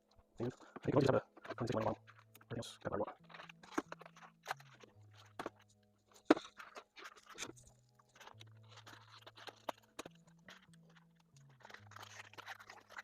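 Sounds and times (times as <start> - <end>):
handling clicks and rustles: 0.1 - 13.0.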